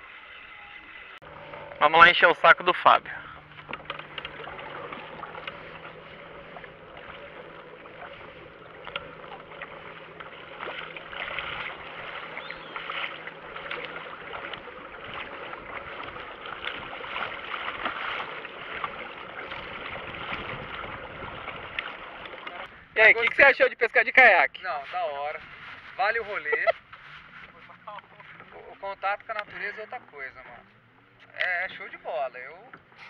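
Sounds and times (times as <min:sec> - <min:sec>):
water lapping against kayak: 0:00.0 - 0:23.6, 0:24.2 - 0:33.0.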